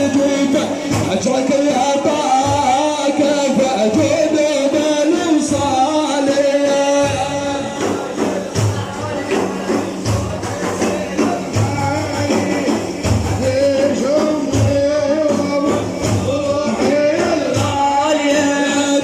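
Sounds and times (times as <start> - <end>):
frame drums beating: 0.0 - 19.0
person singing: 0.0 - 19.0.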